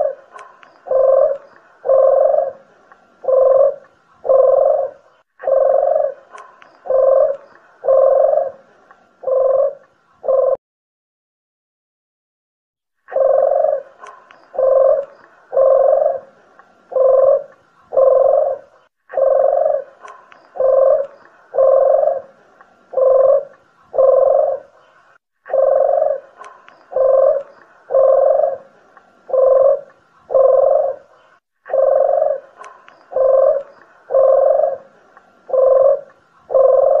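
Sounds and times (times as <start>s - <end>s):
collared doves cooing: 0.0s - 10.6s, 13.1s - 37.0s.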